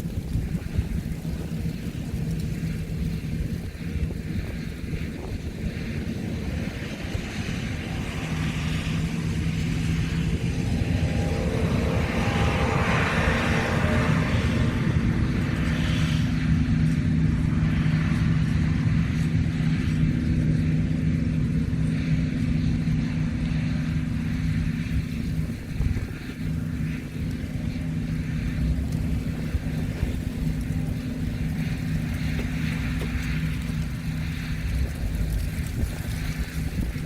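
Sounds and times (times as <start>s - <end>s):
combine diesel engine droning: 0.0s - 37.0s.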